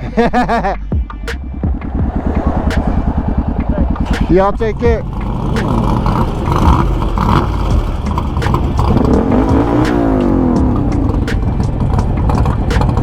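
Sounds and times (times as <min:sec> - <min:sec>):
car engine revving: 0:01.2 - 0:13.0.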